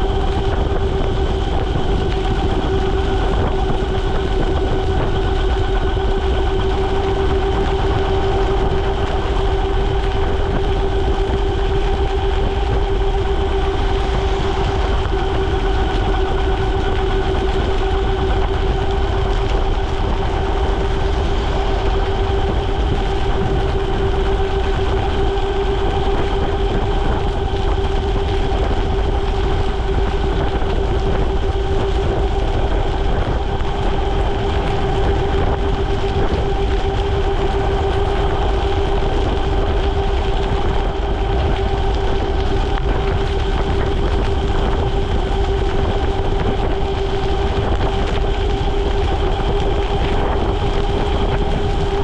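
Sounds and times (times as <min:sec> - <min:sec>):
wind and tyres on wet road: 0:00.0 - 0:52.0.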